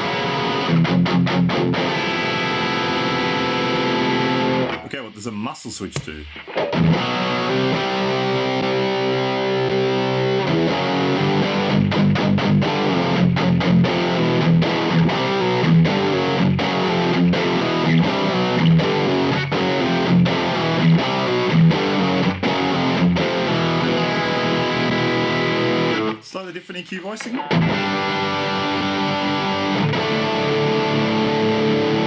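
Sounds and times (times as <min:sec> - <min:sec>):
distorted electric guitar: 0:00.0 - 0:05.1, 0:06.0 - 0:26.2, 0:27.2 - 0:32.0.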